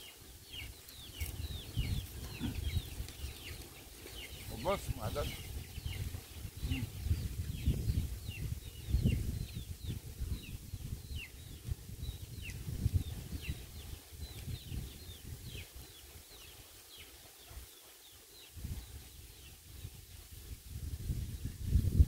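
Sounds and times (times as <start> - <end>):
small birds chirping: 0.0 - 22.0
wind rumble on microphone: 0.1 - 17.0, 18.4 - 22.0.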